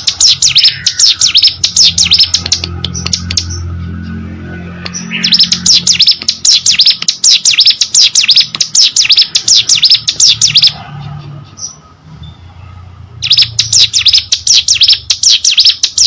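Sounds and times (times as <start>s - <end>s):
bird singing rattling notes: 0.0s - 12.5s, 13.2s - 16.0s.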